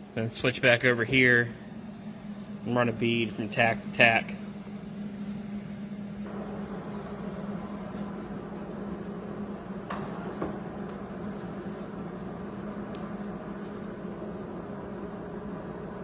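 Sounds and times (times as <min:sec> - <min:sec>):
welder electrical hum: 0:00.0 - 0:16.0.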